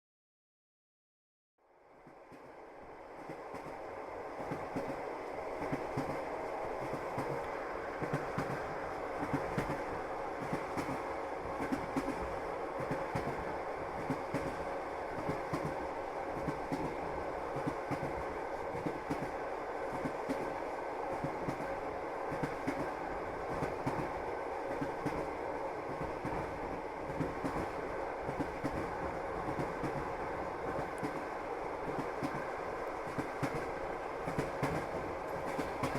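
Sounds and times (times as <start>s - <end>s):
train rumble: 1.6s - 35.9s
train wheels clacking: 4.4s - 35.9s.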